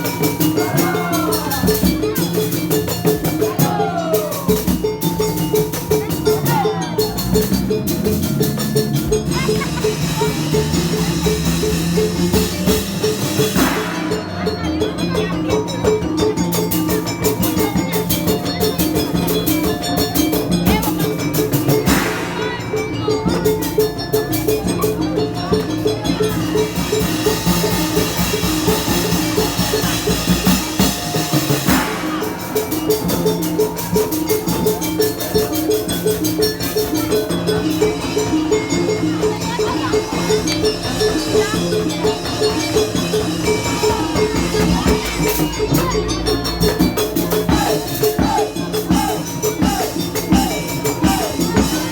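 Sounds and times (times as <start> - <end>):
drums and percussion beat: 0.0 - 51.9
repeating melodic figure: 0.0 - 51.9.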